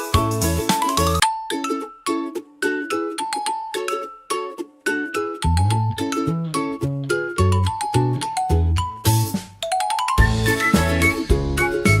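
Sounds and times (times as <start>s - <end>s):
plucked and chimed children's music: 0.0s - 12.0s.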